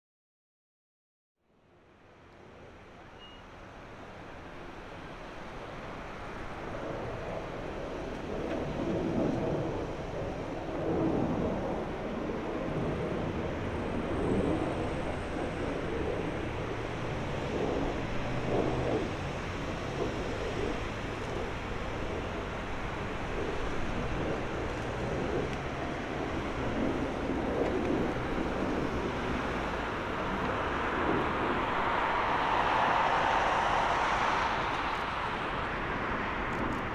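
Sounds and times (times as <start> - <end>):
jet engine rumble: 1.9 - 36.9.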